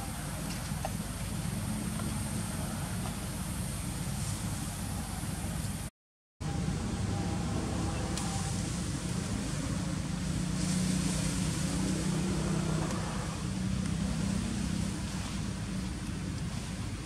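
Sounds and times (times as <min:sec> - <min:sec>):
low engine hum: 0:00.0 - 0:17.0
noise haze: 0:00.0 - 0:17.0.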